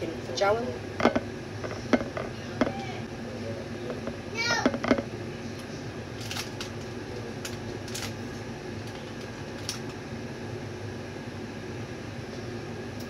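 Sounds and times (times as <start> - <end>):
appliance fan humming: 0.0 - 13.0.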